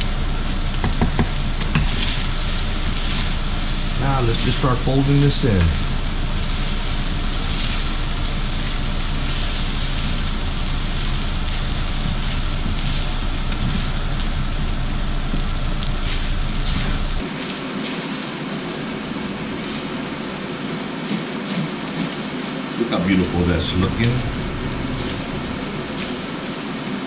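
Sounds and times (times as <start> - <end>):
low background hum: 0.0 - 27.0
rice sizzling in a pan: 0.0 - 27.0.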